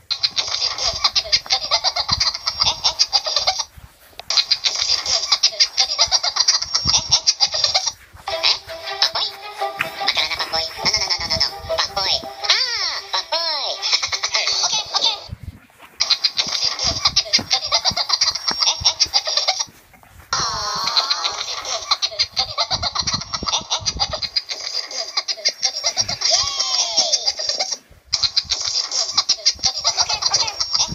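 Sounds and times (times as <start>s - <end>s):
squeaky laughter and giggling: 0.1s - 3.7s, 4.3s - 15.4s, 16.0s - 19.7s, 20.3s - 30.9s.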